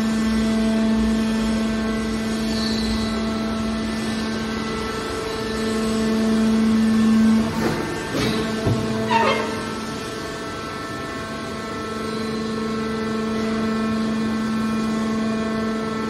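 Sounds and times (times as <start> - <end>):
hydraulic baler humming: 0.0 - 16.0.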